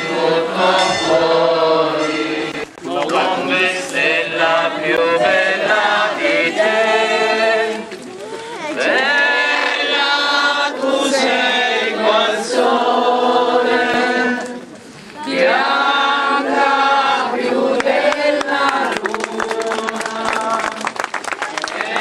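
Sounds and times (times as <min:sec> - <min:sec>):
crowd singing a hymn: 0:00.0 - 0:22.0.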